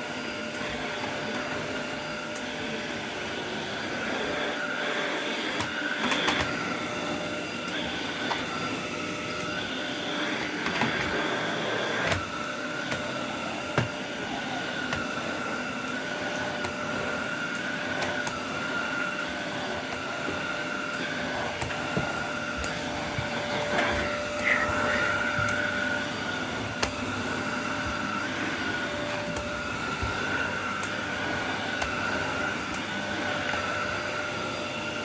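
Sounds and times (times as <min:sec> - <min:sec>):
vacuum cleaner motor whine: 0:00.0 - 0:35.0.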